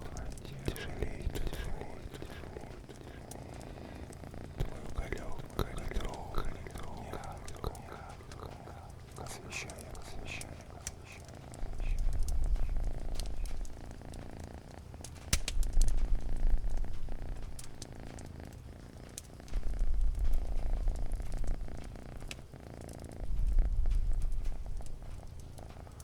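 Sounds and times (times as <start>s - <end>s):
cat purring: 0.0s - 26.0s
wood fire crackling: 0.0s - 26.0s.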